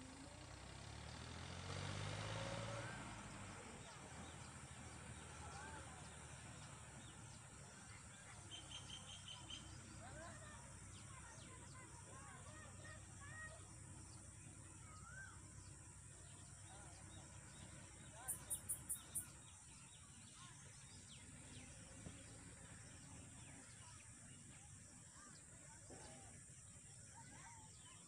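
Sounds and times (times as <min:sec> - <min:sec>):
faint birdsong chirps: 0:00.0 - 0:28.0.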